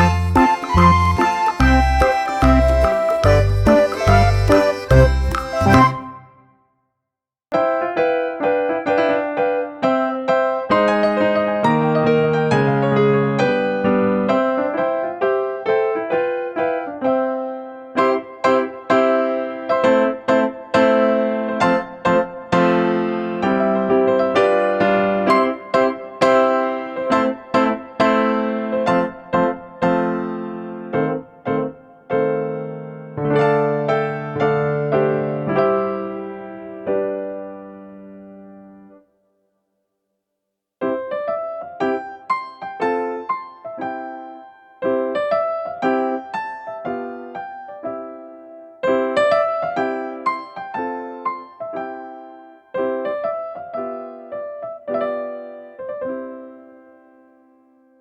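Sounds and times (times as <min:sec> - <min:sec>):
piano music: 0:00.0 - 0:06.5, 0:07.6 - 0:39.0, 0:40.8 - 0:57.8.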